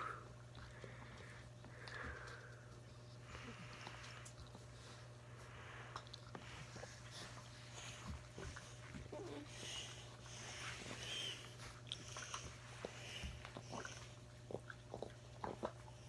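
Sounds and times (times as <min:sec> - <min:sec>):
steady low hum: 0:00.0 - 0:16.0
puppy mouth noises and clicks: 0:00.3 - 0:16.0.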